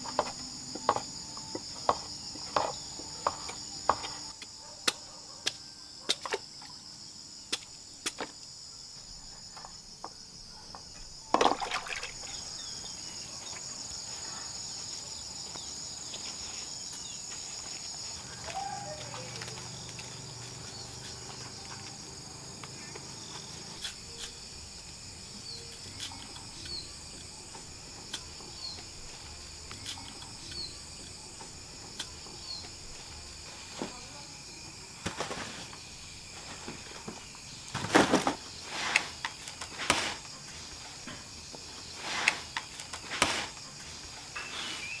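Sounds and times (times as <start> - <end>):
insects chorus: 0.0 - 45.0.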